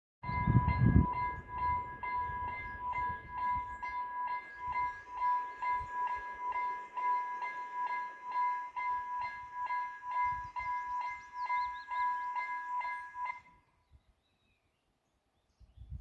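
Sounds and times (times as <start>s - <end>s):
level crossing bell ringing: 0.2s - 13.5s.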